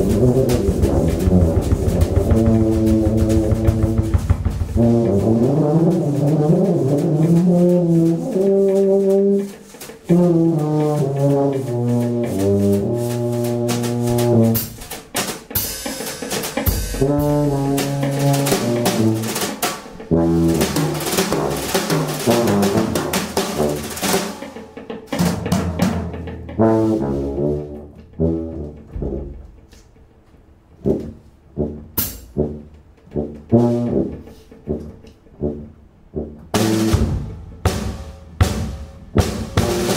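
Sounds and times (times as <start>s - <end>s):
tuba: 0.0s - 30.0s, 30.7s - 39.9s
drum kit: 0.0s - 39.9s.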